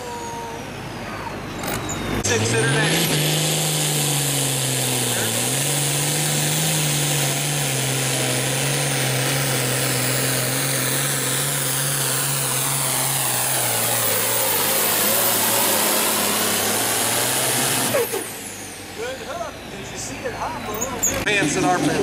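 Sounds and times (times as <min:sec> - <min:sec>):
high whines: 0:00.0 - 0:22.0
tractor diesel engine under load: 0:00.0 - 0:22.0.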